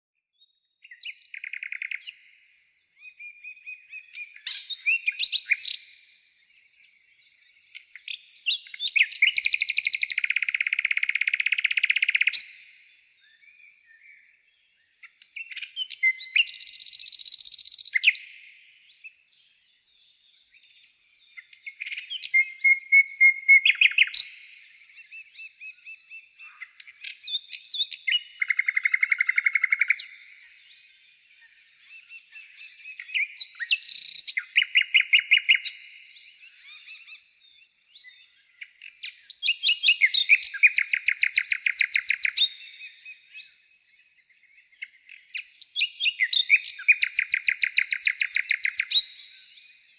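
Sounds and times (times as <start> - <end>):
songbird singing with trills: 0.2 - 49.9.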